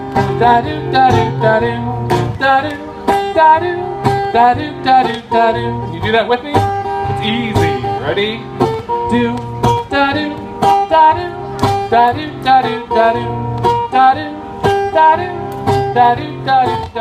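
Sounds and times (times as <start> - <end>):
acoustic guitar strumming: 0.0 - 17.0
person singing: 0.1 - 17.0.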